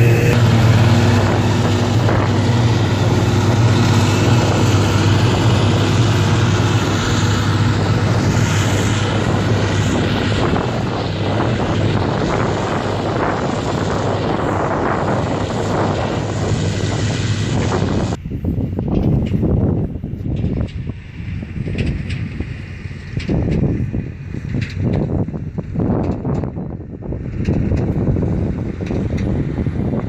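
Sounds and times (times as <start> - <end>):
tractor engine: 0.0 - 18.2, 18.8 - 30.0
forage harvester droning: 0.0 - 30.0.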